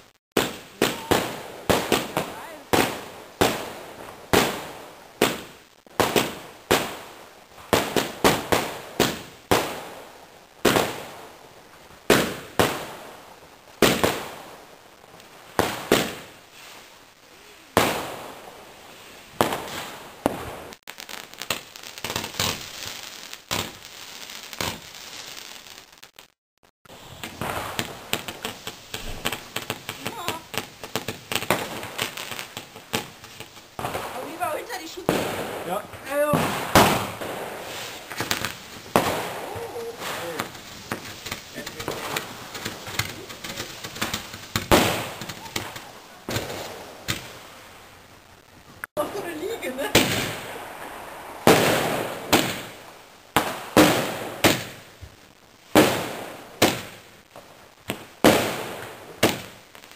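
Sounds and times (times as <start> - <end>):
fireworks bangs: 0.0 - 59.9
fireworks crackling and popping: 0.0 - 59.9.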